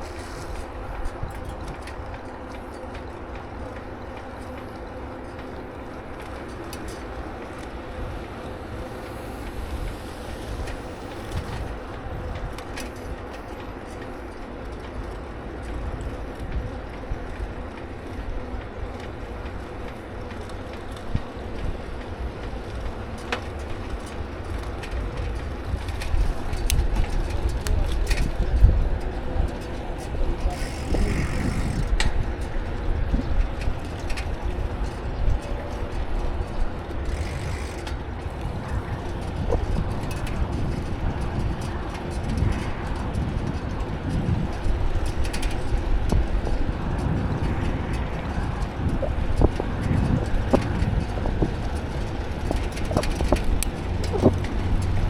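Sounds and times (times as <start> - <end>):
tyre and road noise: 0.0 - 55.0
wind rumbling on microphone: 0.0 - 55.0.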